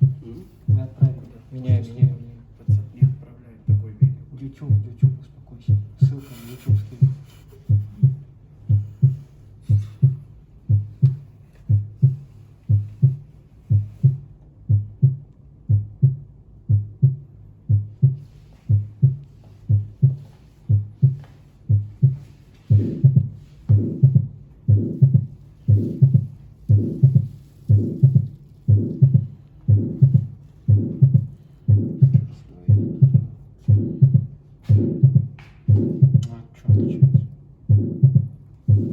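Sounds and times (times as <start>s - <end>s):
heartbeat lub-dub: 0.0s - 38.9s.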